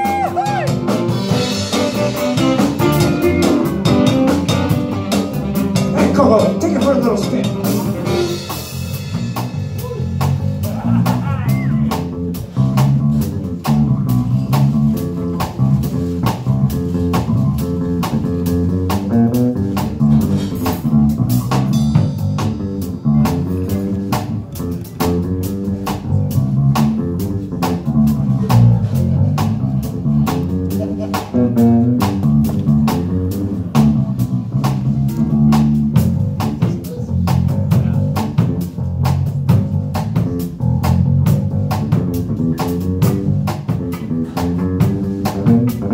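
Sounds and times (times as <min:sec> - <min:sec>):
bass guitar: 0:00.0 - 0:45.9
drum kit beat: 0:00.0 - 0:45.9
electric and acoustic guitars: 0:00.0 - 0:45.9.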